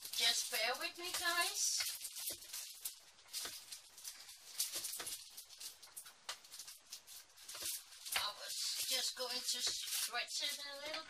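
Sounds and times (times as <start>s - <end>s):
rustling and handling noises: 0.0s - 11.0s.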